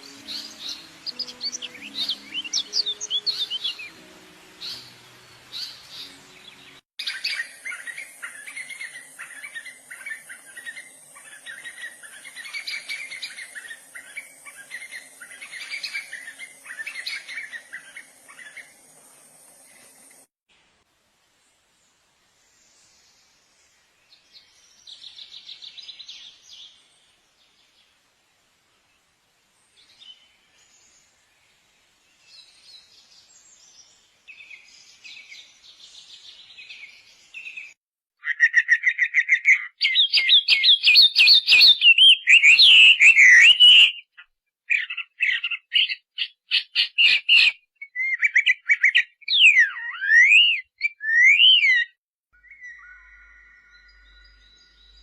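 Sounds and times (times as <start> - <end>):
birds chirping and trilling: 0.0 - 20.2, 29.6 - 55.0.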